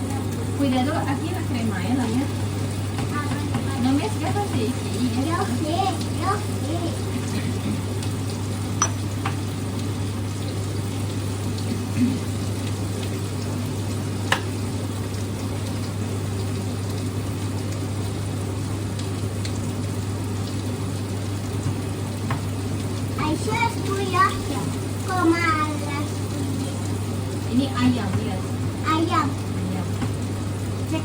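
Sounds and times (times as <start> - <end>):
food sizzling in a pan: 0.0 - 31.0.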